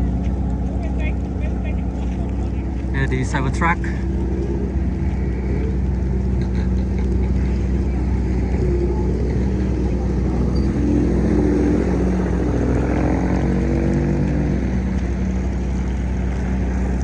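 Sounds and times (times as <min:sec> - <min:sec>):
traffic engines droning: 0:00.0 - 0:17.0.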